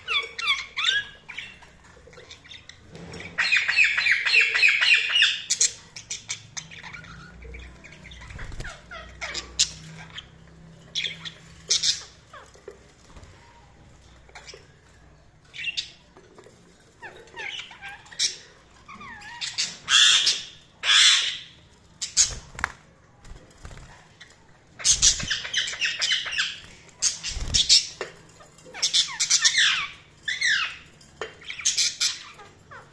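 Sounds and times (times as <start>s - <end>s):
budgerigars chirping and squawking: 0.0s - 13.3s, 15.5s - 16.1s, 17.0s - 22.8s, 23.6s - 32.9s.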